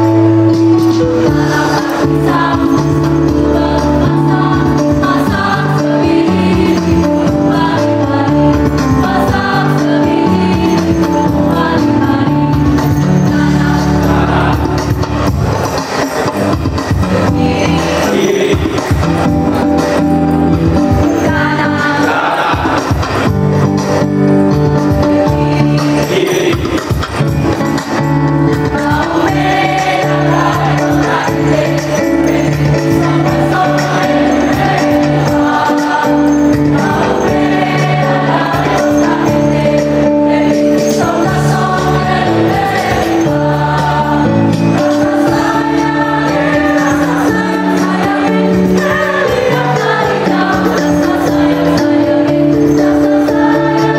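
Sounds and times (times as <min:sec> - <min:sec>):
instrumental accompaniment: 0:00.0 - 0:53.9
choir singing in unison: 0:00.9 - 0:15.8, 0:17.3 - 0:19.0, 0:21.0 - 0:23.3, 0:25.0 - 0:27.0, 0:28.6 - 0:53.9.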